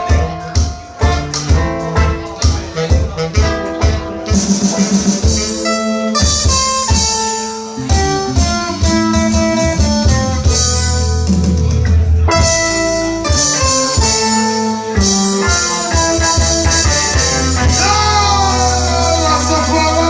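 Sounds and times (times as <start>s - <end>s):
guitar: 0.0s - 20.0s
reggae band playing: 0.0s - 20.0s.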